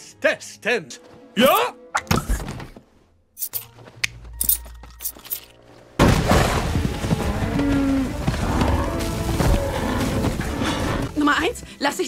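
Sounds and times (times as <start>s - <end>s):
film music: 0.0s - 12.0s.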